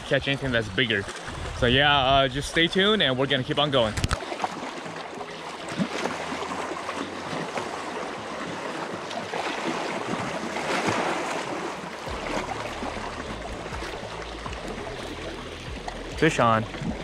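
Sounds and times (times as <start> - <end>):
waves lapping against rocks: 0.1 - 17.0.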